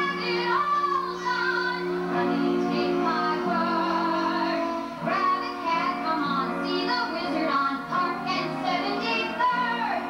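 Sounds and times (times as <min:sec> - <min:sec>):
woman singing: 0:00.0 - 0:10.0.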